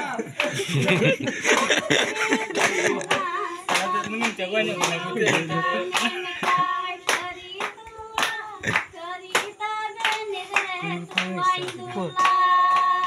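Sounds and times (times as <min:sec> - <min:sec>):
rhythmic hand-clapping: 0:00.0 - 0:13.0
group of voices singing: 0:00.1 - 0:13.0.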